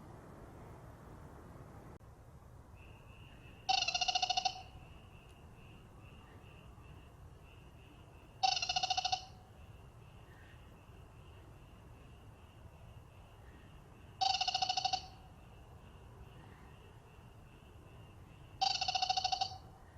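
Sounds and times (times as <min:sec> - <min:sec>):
frog pulsed call: 0:02.7 - 0:19.9
high-pitched pulsing frog chorus: 0:02.8 - 0:19.9.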